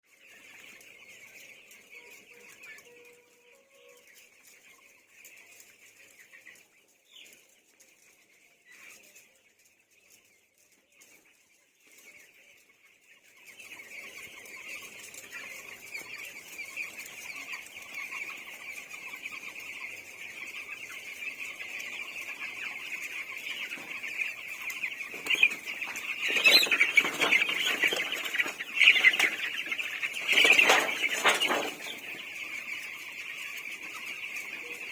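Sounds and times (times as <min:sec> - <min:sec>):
chickens calling: 0:00.1 - 0:34.9.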